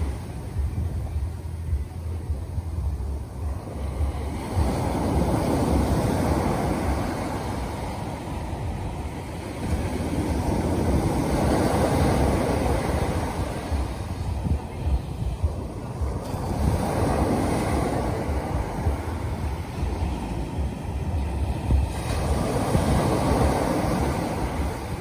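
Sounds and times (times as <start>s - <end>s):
small waves breaking on beach: 0.0s - 25.0s
wind buffeting microphone: 0.0s - 25.0s.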